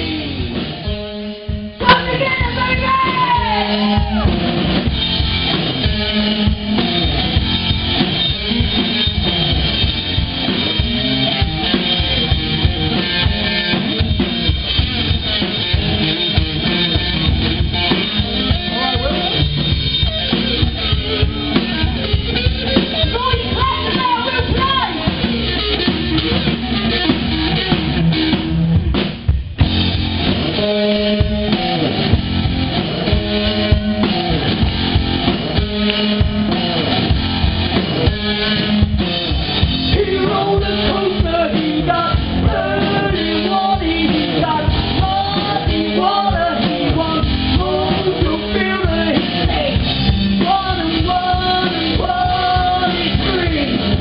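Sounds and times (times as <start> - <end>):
bass drum and snare: 0.0 - 54.0
live rock band playing: 0.0 - 54.0.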